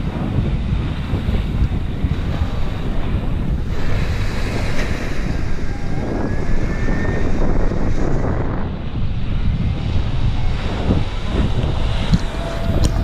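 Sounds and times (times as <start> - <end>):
breaking surf: 0.0 - 13.0
wind buffeting microphone: 0.0 - 13.0
jet airliner whine: 1.1 - 13.0.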